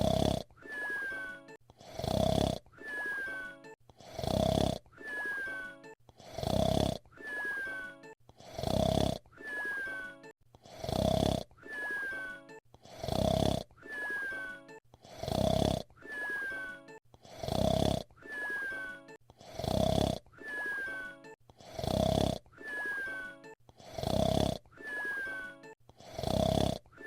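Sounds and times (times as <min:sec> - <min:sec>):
cartoon whistle snore: 0:00.0 - 0:27.0.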